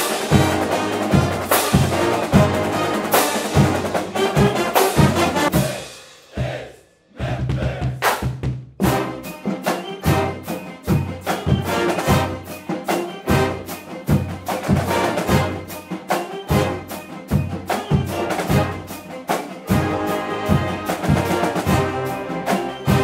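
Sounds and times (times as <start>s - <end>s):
brass chords: 0.0s - 8.2s, 8.8s - 23.0s.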